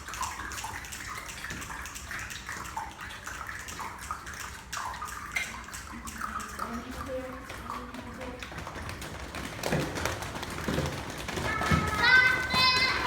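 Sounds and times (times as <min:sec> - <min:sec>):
rainmaker shakers rattling: 0:00.0 - 0:13.0.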